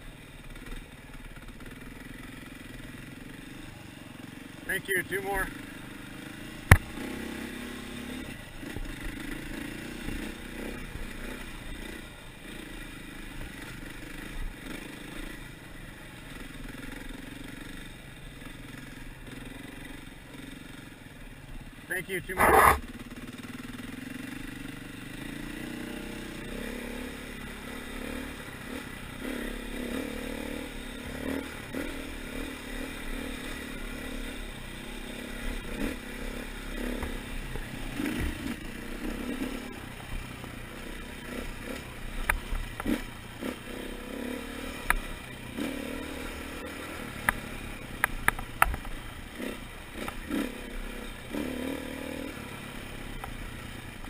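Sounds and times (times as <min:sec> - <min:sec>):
dirt bike engine revving: 0:04.5 - 0:20.8, 0:21.7 - 0:53.7.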